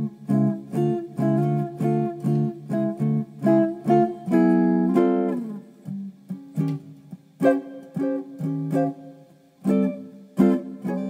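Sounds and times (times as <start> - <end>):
solo guitar playing: 0.0 - 11.0.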